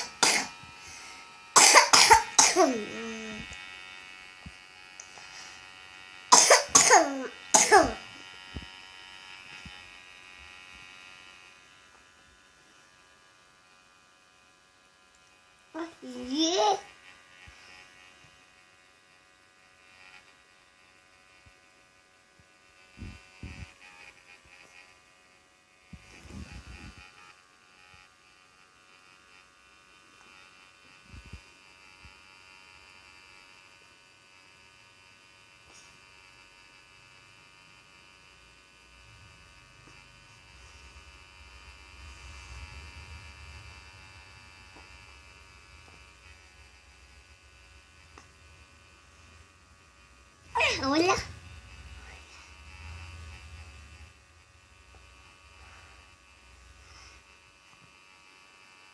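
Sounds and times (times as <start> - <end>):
nebulizer electric buzz: 0.0 - 58.9.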